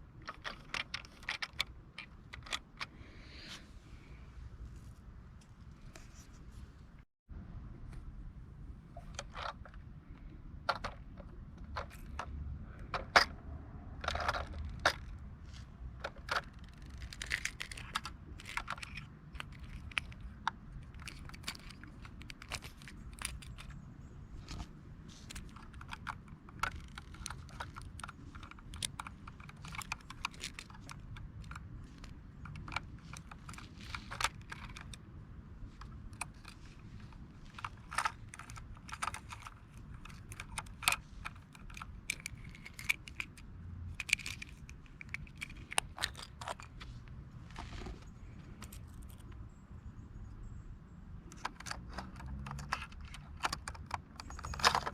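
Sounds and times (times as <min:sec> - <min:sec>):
plastic and metal parts clicking: 0:00.0 - 0:03.0, 0:09.0 - 0:49.4, 0:51.2 - 0:54.9.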